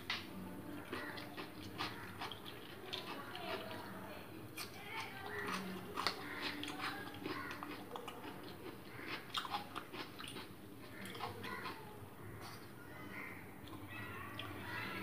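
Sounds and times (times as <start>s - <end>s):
person chewing noodles: 0.0s - 3.9s, 4.6s - 12.8s.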